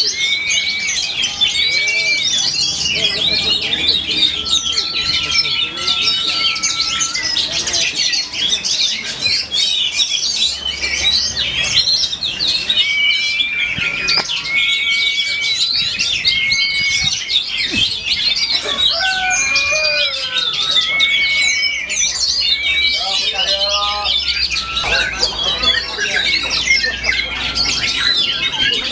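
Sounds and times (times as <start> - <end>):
long flat whistled bird notes: 0.0 - 28.9
songbirds chirping and trilling: 0.0 - 28.9.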